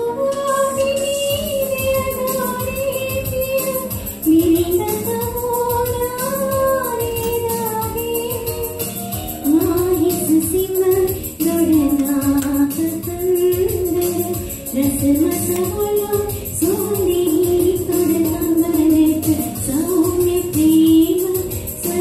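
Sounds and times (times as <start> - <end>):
recorded backing track with beat: 0.0 - 22.0
woman singing into microphone: 0.0 - 22.0.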